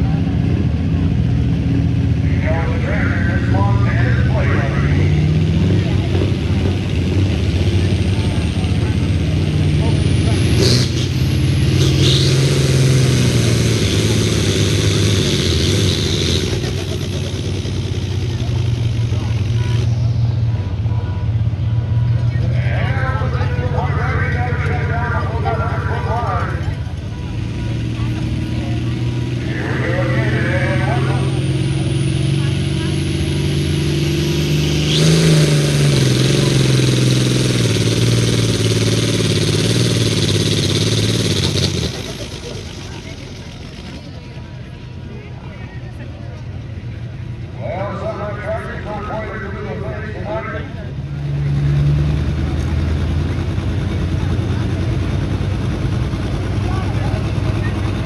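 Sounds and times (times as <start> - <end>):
tractor diesel engine at high revs: 0.0 - 58.0.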